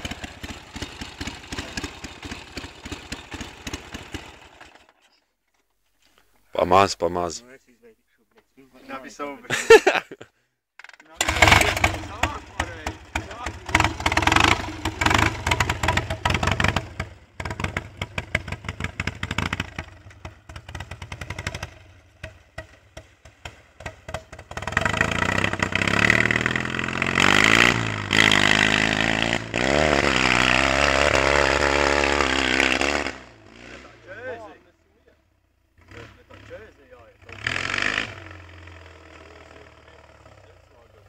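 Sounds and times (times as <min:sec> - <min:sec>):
atv engine revving: 0:00.0 - 0:05.0, 0:10.8 - 0:41.0.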